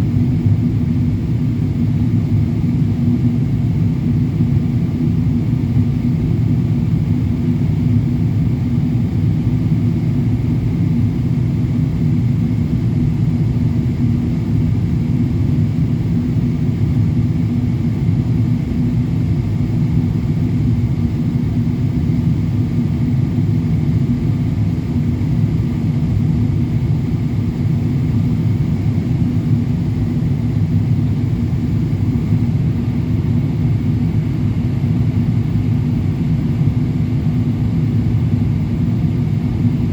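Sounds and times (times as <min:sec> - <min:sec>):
airplane cabin engine drone: 0:00.0 - 0:39.9
faint hum: 0:00.0 - 0:39.9.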